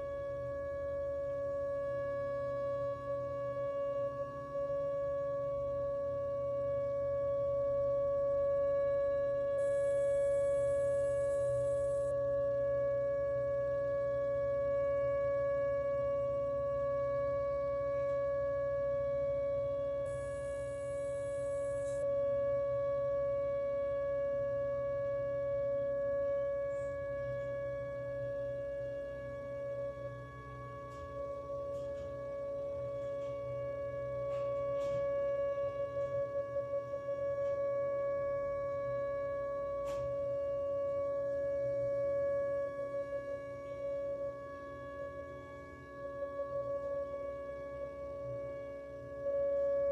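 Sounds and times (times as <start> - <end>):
warning siren steady tone: 0.0 - 49.9.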